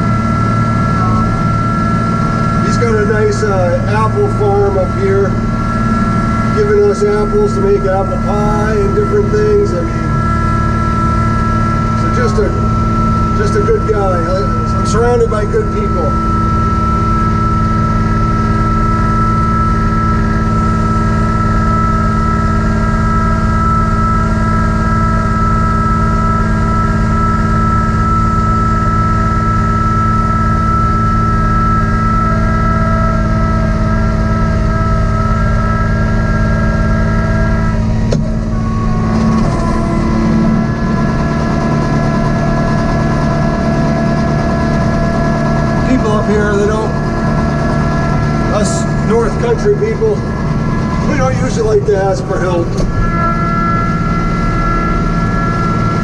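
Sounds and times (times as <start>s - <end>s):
steady high tone: 0.0s - 56.0s
tractor diesel engine running: 0.0s - 56.0s.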